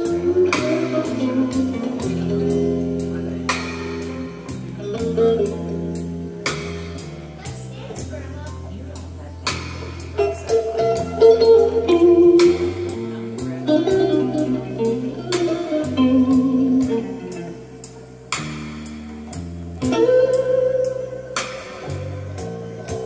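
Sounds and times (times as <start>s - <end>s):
commercial music with beat: 0.0s - 23.0s.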